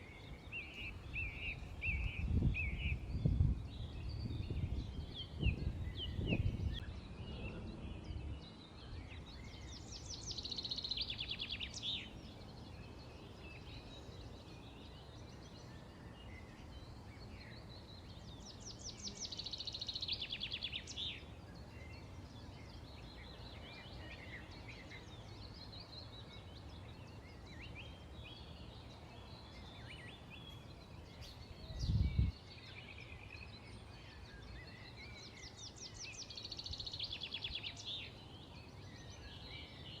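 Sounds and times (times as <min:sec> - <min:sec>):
rapid trilled bird songs: 0:00.0 - 0:40.0
songbirds chirping: 0:00.0 - 0:40.0.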